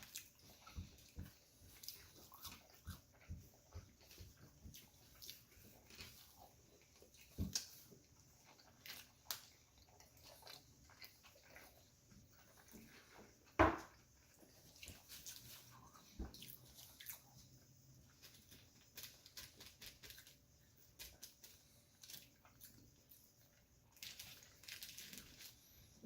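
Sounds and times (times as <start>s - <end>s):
chewing and wet mouth smacking: 0.0s - 25.6s.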